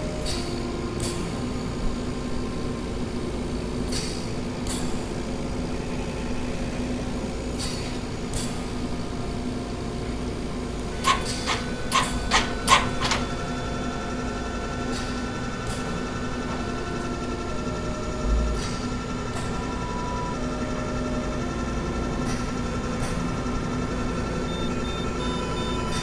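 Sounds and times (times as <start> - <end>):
machine humming: 0.0 - 26.0.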